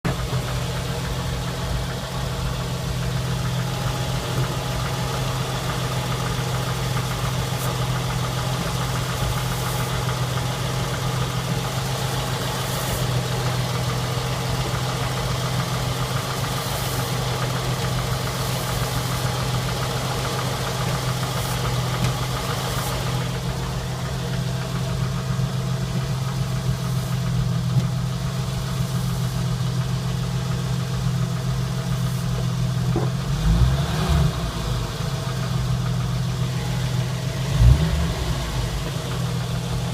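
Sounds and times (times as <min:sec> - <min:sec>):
vehicle engine low drone: 0:00.0 - 0:39.9.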